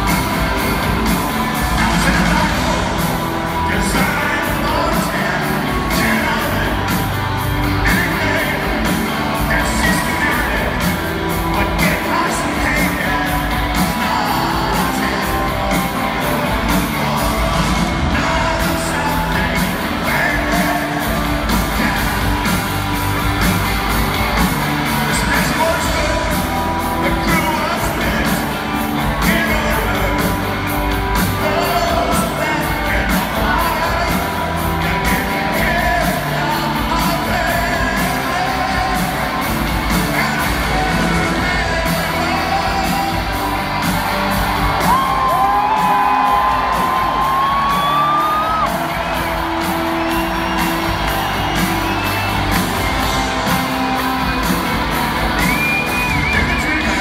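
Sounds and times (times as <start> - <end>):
crowd whooping and yelling: 0.0 - 57.0
live rock band playing: 0.0 - 57.0
person singing: 0.0 - 57.0.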